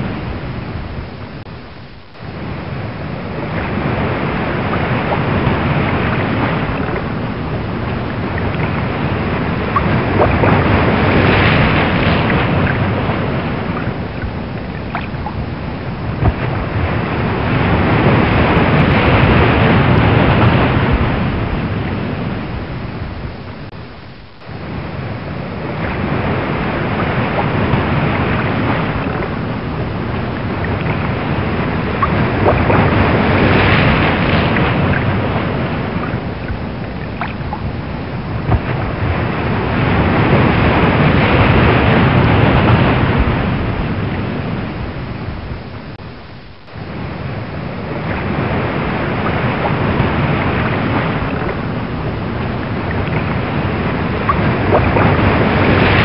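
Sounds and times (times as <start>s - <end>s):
rough sea waves: 0.0s - 56.0s
wind: 0.0s - 56.0s.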